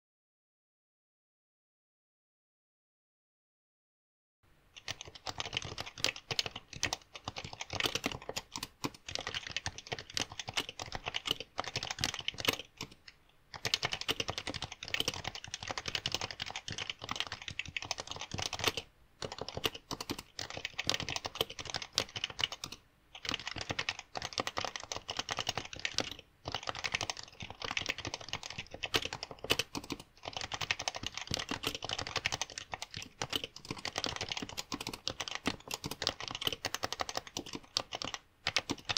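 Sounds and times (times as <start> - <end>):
fast keyboard typing: 4.8 - 38.9.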